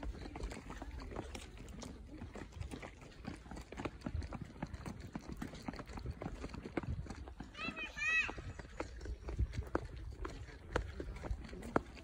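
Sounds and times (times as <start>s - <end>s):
footsteps on paved path: 0.0s - 12.0s.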